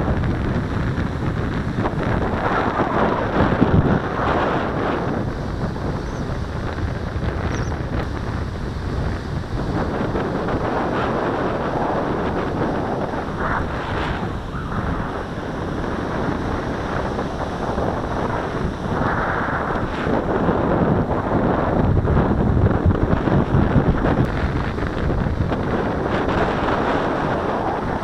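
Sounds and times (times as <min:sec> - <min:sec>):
breaking surf: 0:00.0 - 0:28.0
strong wind buffeting microphone: 0:00.0 - 0:28.0.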